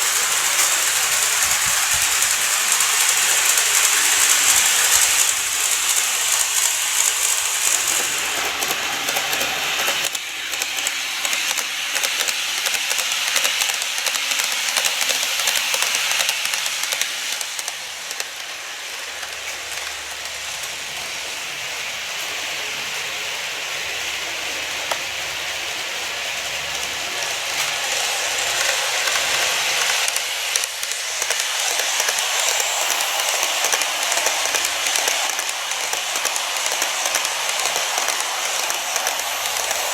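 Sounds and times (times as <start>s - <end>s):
model train rattling on track: 0.0s - 39.9s.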